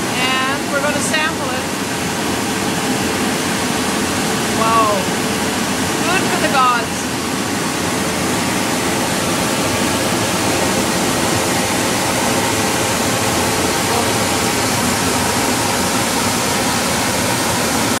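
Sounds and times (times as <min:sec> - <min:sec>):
sap boiling with steady hiss: 0:00.0 - 0:18.0.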